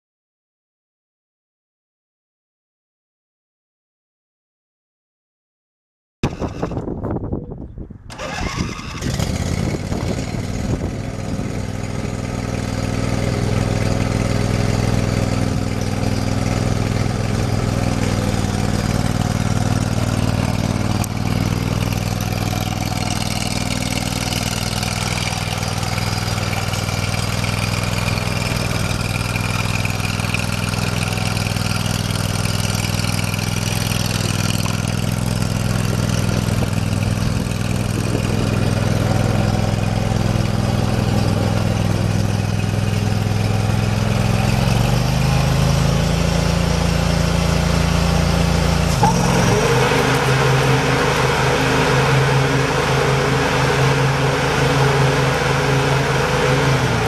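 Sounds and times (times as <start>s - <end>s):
mower engine running: 6.2s - 7.0s, 8.1s - 57.0s.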